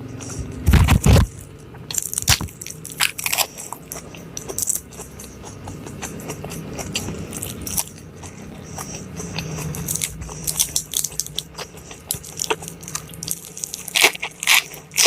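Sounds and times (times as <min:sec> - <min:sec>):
crunching and chewing: 0:00.0 - 0:15.0.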